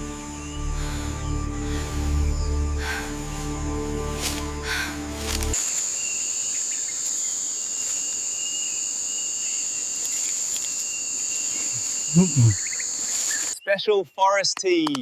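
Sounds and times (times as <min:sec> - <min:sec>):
insects singing: 0:00.0 - 0:15.0.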